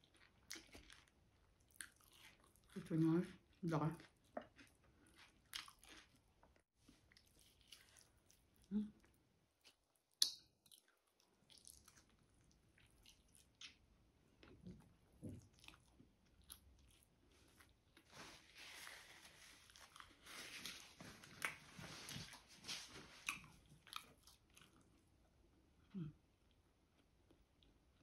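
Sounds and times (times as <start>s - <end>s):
person chewing: 0.0s - 2.8s, 4.0s - 25.1s.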